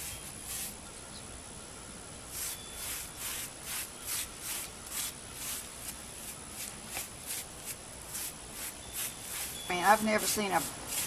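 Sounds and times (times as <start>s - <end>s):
brushing strokes on rough surface: 0.0s - 0.8s, 2.3s - 11.0s.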